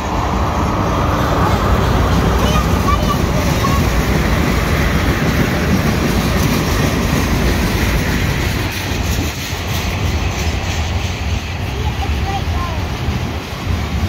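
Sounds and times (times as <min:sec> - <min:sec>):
freight train wheels rumbling on rails: 0:00.0 - 0:14.0.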